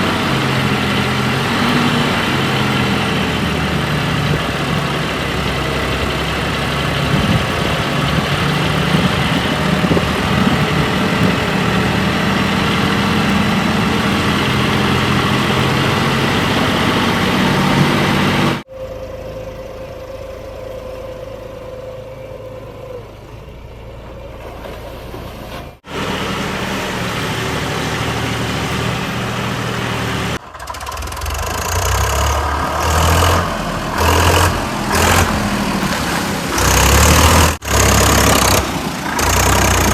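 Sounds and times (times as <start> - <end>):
diesel machinery engines running: 0.0 - 39.9.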